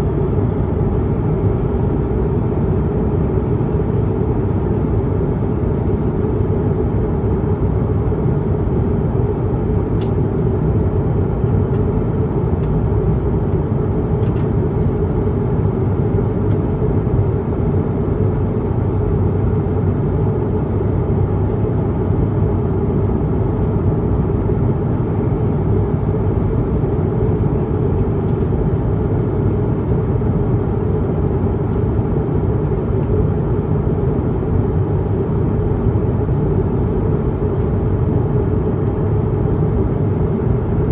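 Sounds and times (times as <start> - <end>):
airplane cabin roar: 0.0 - 40.9.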